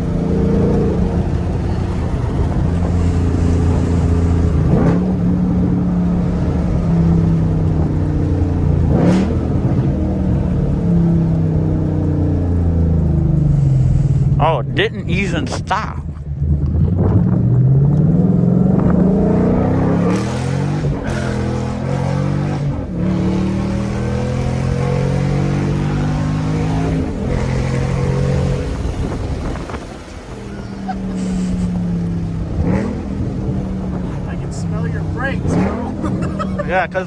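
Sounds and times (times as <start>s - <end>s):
car engine revving hard: 0.0s - 15.5s, 16.1s - 37.0s.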